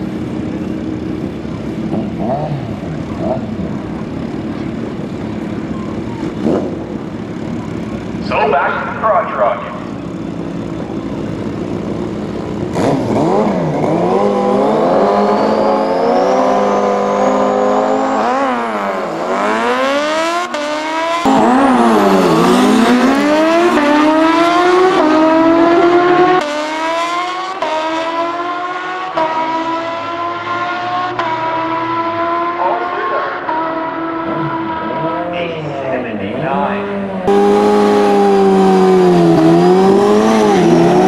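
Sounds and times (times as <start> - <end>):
motorcycles accelerating hard: 0.0 - 41.0.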